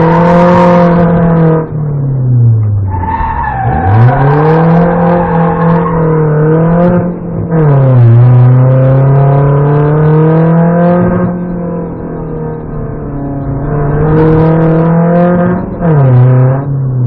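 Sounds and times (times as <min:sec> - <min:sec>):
car engine revving hard: 0:00.0 - 0:01.7, 0:03.6 - 0:12.0, 0:12.7 - 0:16.7.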